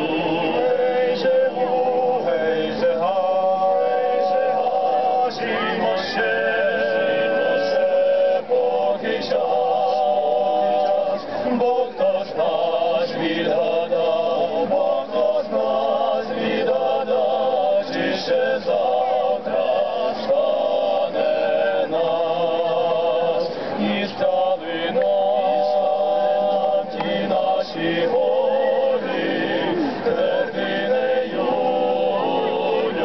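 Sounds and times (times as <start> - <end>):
male vocal ensemble singing: 0.0 - 33.0.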